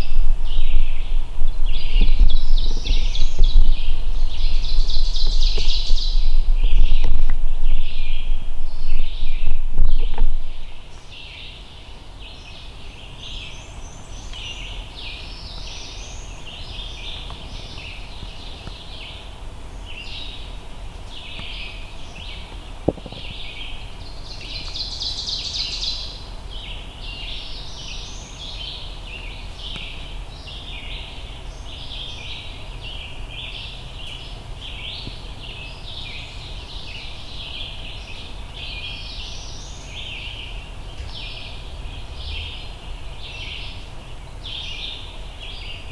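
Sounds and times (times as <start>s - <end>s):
small birds singing: 0.0s - 45.9s.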